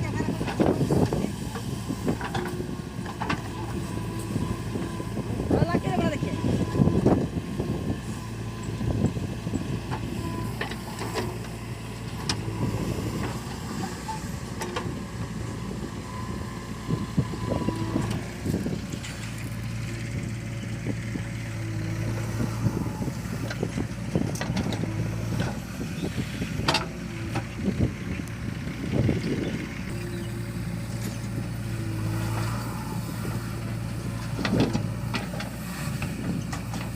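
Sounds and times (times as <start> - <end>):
diesel engine droning: 0.0 - 36.9.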